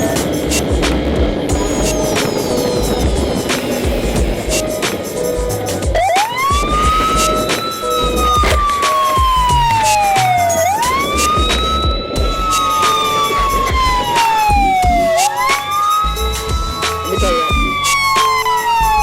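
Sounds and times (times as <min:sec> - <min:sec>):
electronic siren wailing: 0:00.0 - 0:05.2, 0:05.8 - 0:19.0.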